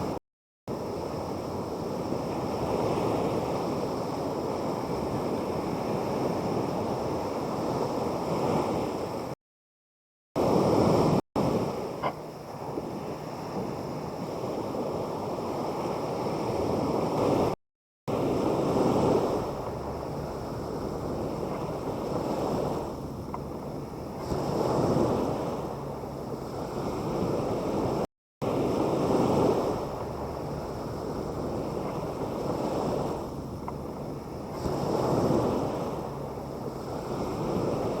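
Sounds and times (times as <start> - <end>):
sea waves breaking on beach: 0.0 - 9.4, 10.4 - 38.0.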